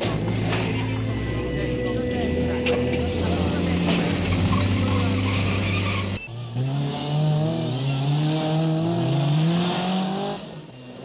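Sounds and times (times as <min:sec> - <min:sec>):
steady engine drone: 0:00.0 - 0:10.9
car engines revving and accelerating: 0:00.0 - 0:11.0.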